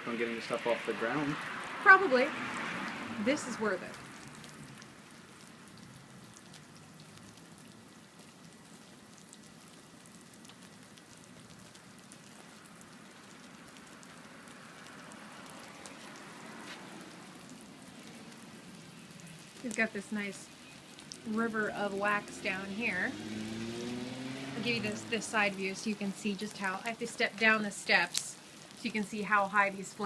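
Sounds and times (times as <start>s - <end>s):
candles sizzling and crackling: 0.0s - 30.0s.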